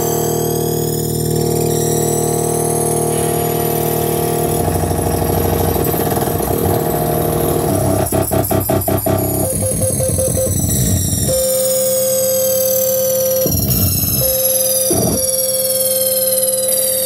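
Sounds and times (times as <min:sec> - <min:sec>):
synthesizer drone with buzzing stutter: 0:00.0 - 0:17.0.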